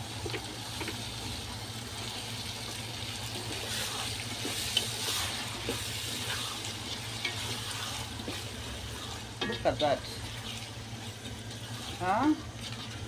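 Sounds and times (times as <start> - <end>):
sauce sizzling in pot: 0.0 - 13.0.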